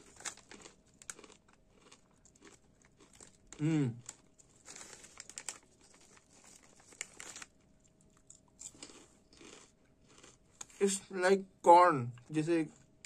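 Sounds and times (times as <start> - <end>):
plastic snack packet crinkling: 0.0 - 10.8.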